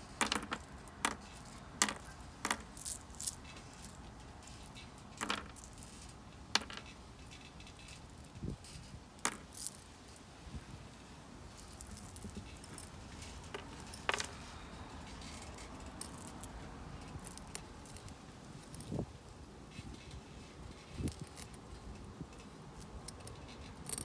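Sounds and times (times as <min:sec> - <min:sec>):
pebbles clicking and rattling: 0:00.0 - 0:10.2, 0:11.5 - 0:14.5, 0:15.1 - 0:24.0.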